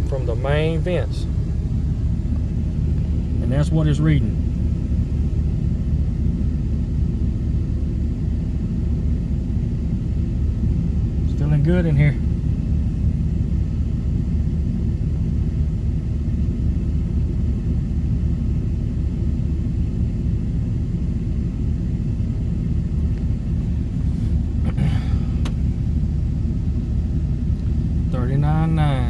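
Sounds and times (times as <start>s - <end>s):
air conditioning running: 0.0s - 29.0s
car engine idling: 0.0s - 29.0s.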